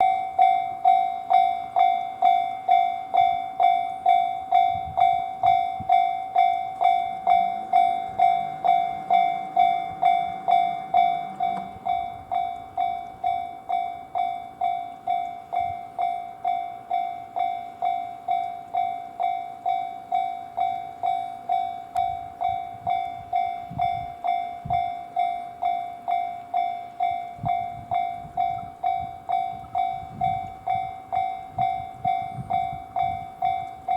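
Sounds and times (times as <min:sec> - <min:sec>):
level crossing alarm ringing: 0:00.0 - 0:33.9.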